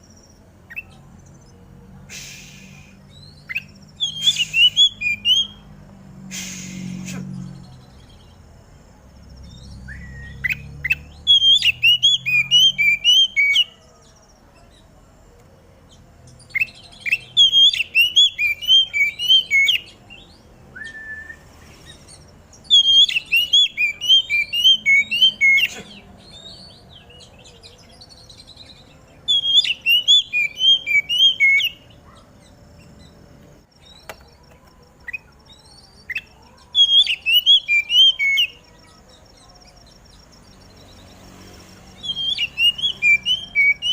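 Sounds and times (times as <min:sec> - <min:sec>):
magpie-robin singing: 0:02.4 - 0:05.8, 0:09.1 - 0:14.9, 0:15.8 - 0:43.9.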